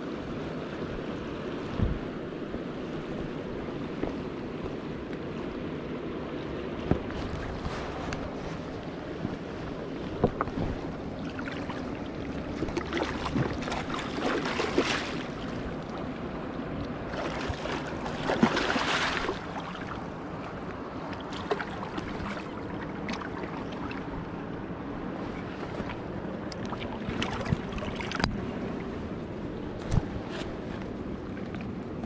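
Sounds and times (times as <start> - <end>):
river water lapping over rocks: 0.2 - 32.0.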